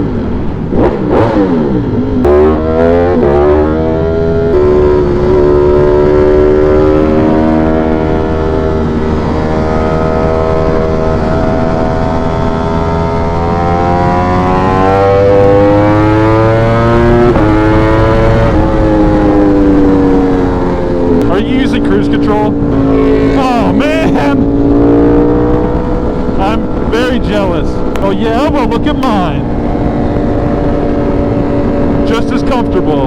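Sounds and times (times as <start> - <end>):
motorcycle engine at road speed: 0.0 - 33.0.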